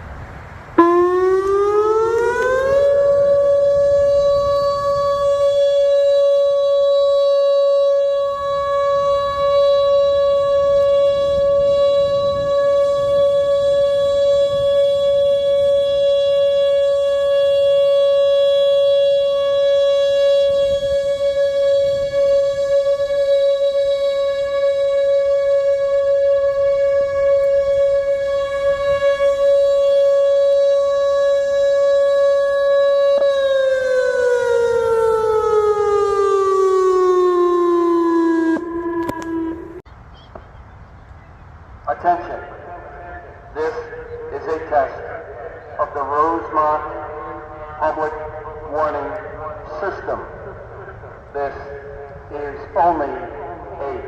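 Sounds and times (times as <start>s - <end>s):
warning siren steady tone: 0.0s - 39.9s, 41.9s - 54.0s.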